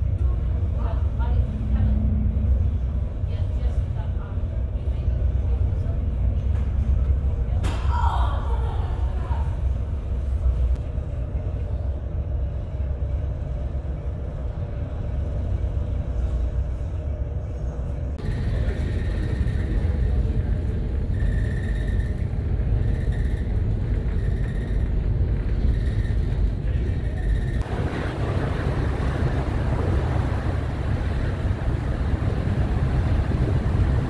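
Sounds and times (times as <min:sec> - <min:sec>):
storm wind low rumble: 0:00.0 - 0:34.0.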